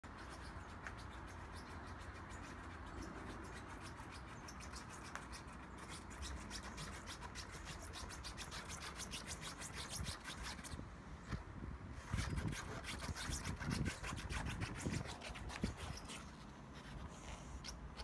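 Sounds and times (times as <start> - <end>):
puppy claws scratching rubber boots: 0.0 - 10.8, 12.0 - 18.0.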